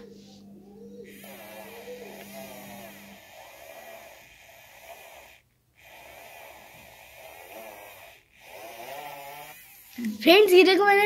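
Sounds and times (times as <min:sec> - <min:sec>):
electric eraser motor whirring: 0:01.0 - 0:10.2.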